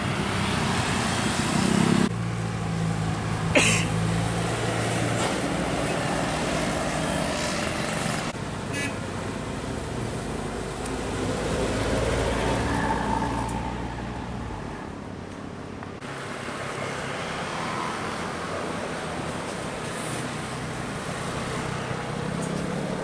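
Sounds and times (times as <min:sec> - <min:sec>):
traffic hum: 0:00.0 - 0:23.0.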